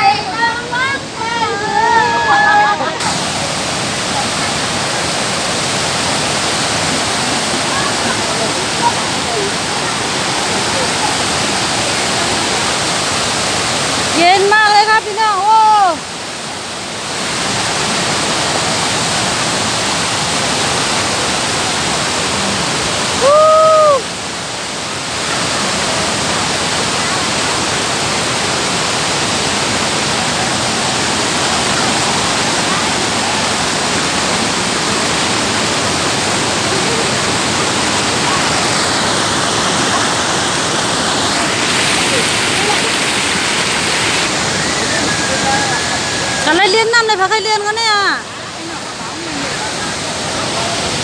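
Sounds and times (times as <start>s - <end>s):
waterfall rushing onto rocks: 0.0s - 51.0s.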